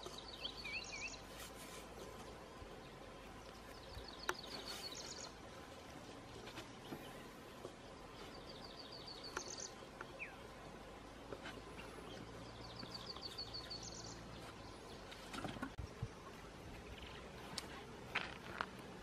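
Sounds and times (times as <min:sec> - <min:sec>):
outdoor background hiss: 0:00.0 - 0:19.0
songbird singing: 0:00.0 - 0:19.0.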